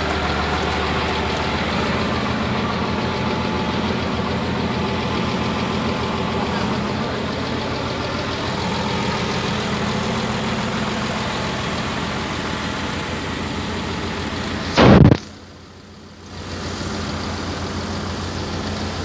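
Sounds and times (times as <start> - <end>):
loud rush of noise: 0.0 - 15.4
diesel engine idling: 0.0 - 19.0.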